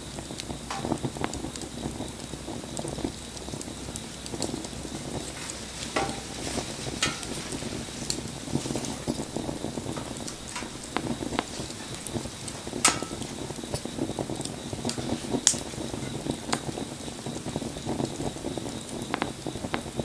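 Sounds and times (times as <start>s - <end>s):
fire crackling and popping: 0.0s - 20.0s
fire hissing: 0.0s - 20.0s.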